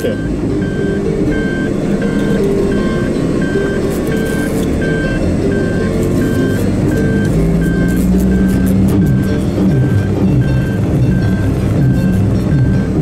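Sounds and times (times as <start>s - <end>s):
car engine running: 0.0s - 13.0s
reversing warning beeps: 0.0s - 13.0s.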